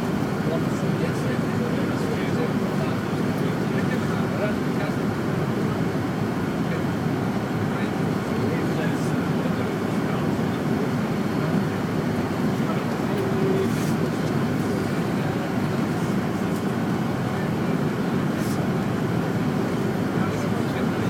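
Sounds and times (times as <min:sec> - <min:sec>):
airflow rush in aircraft cabin: 0:00.0 - 0:21.0
jet engine hum: 0:00.0 - 0:21.0.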